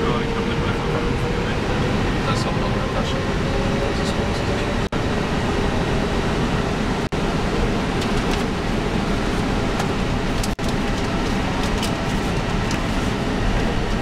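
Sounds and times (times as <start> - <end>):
aircraft engines idling rumble: 0.0 - 14.0.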